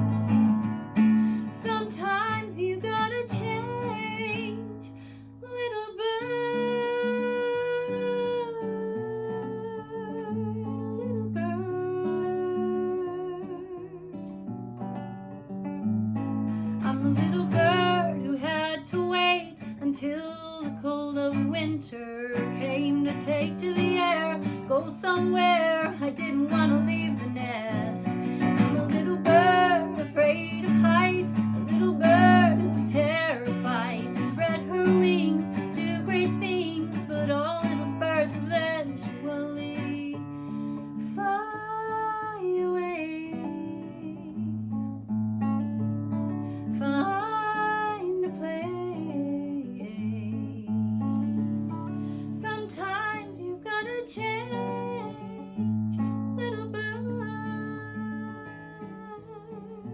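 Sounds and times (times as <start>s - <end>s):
acoustic guitar music: 0.0s - 59.9s.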